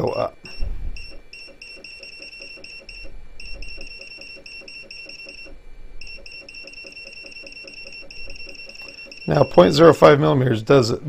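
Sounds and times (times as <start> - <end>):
stepper motor chirping: 0.0 - 10.2.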